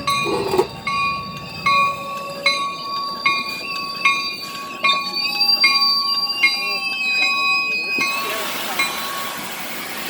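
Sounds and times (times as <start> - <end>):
locomotive bell ringing: 0.0 - 10.0.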